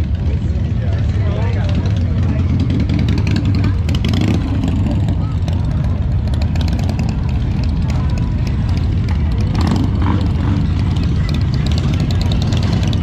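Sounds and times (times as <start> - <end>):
faint voices: 0.0 - 13.0
motorcycle engines running: 0.0 - 13.0.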